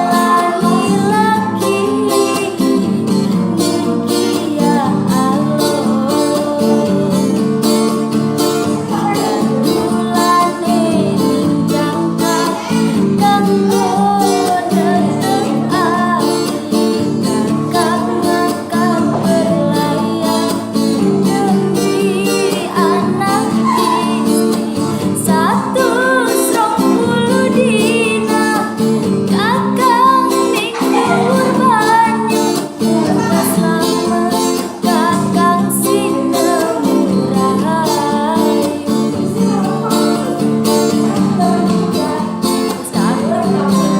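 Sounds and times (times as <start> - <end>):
person singing: 0.0 - 43.9
strummed acoustic guitar: 0.0 - 43.9.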